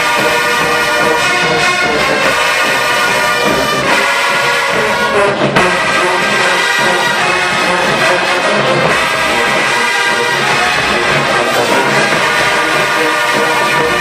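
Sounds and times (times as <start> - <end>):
marching band brass chords: 0.0 - 14.0.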